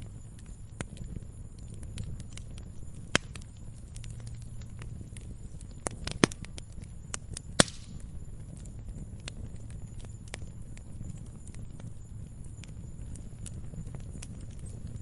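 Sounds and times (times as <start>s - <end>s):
fire pops: 0.0s - 15.0s
wood fire crackling: 0.0s - 15.0s.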